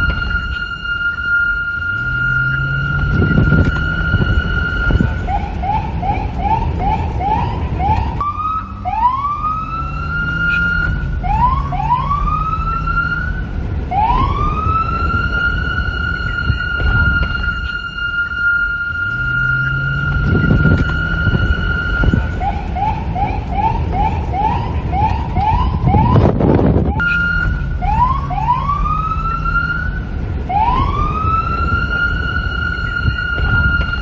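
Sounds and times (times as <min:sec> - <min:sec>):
police car electronic siren: 0:00.0 - 0:34.0.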